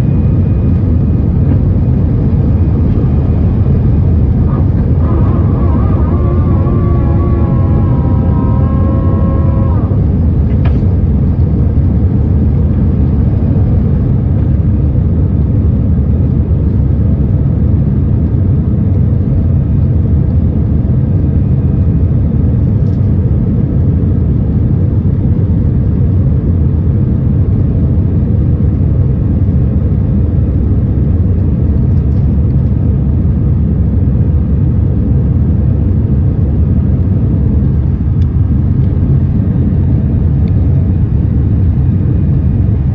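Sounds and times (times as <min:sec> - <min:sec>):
jet engines rumbling: 0:00.0 - 0:31.9, 0:33.0 - 0:42.9.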